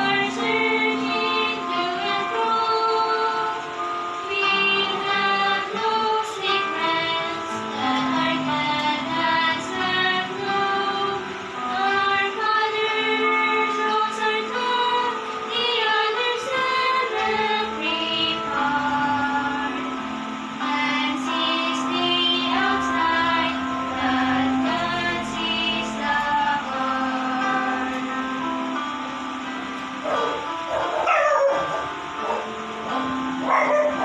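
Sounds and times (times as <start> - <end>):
two women singing a hymn: 0.0 - 34.0.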